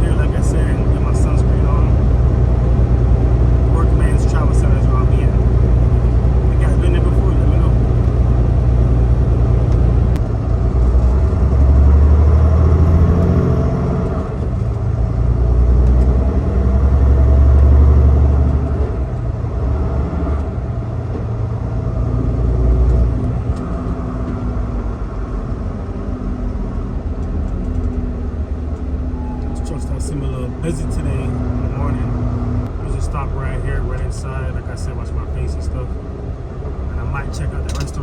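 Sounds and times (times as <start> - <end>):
road noise: 0.0 - 38.0
truck diesel engine rumble: 0.0 - 38.0.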